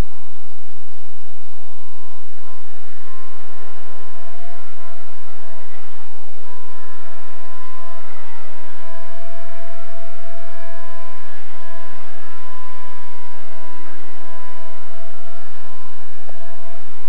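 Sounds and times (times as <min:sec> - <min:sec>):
rc helicopter rotor whine: 0:00.0 - 0:17.0.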